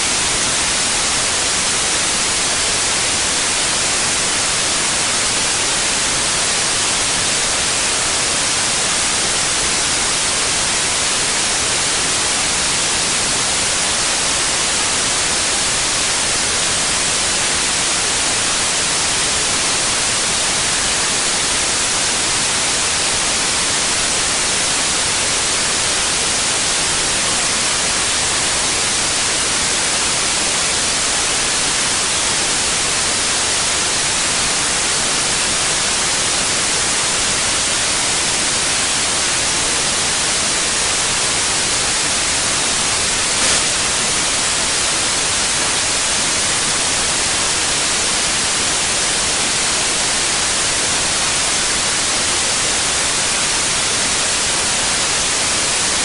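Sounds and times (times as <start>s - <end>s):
electronic white noise hiss: 0.0s - 56.0s.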